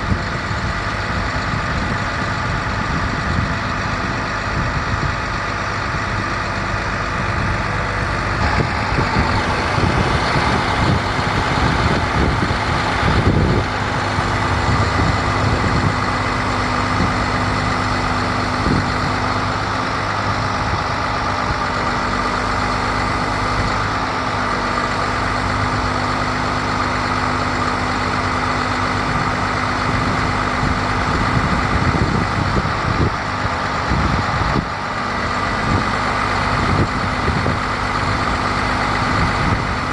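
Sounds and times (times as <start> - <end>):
diesel engine idling: 0.0 - 39.9
steady whine: 0.0 - 39.9.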